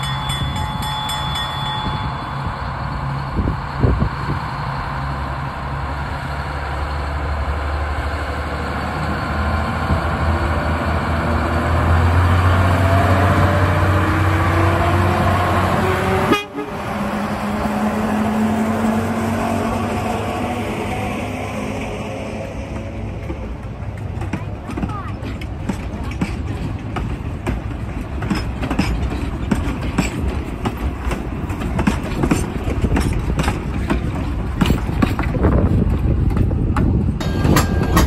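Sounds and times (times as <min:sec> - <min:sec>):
diesel locomotive engine under load: 0:00.0 - 0:38.0.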